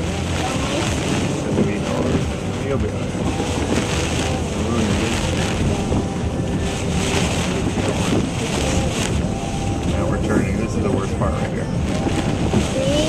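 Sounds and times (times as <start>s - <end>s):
heavy low rumble: 0.0s - 13.0s
waves breaking against boat: 0.0s - 13.0s
wind buffeting microphone: 0.0s - 13.0s.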